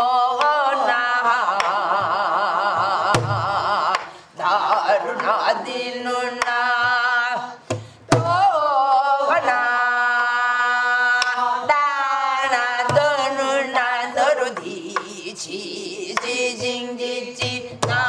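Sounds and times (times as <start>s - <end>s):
woman singing long held syllables: 0.0s - 18.0s.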